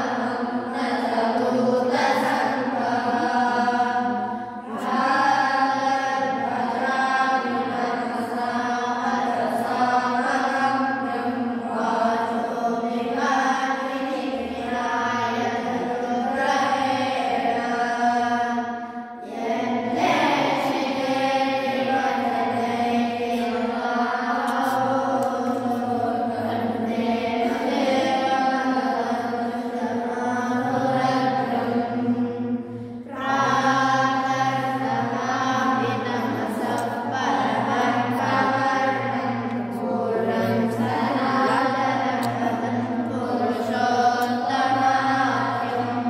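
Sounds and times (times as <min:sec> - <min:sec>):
boys chanting in unison: 0:00.0 - 0:46.0.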